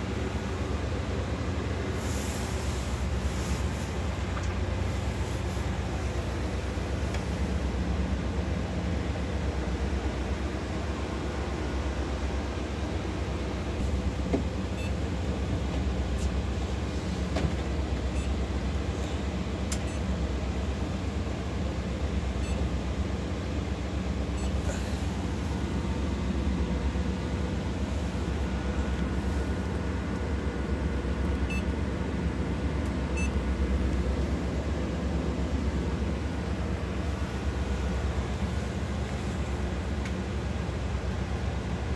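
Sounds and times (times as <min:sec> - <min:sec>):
bus engine idling hum: 0:00.0 - 0:41.9.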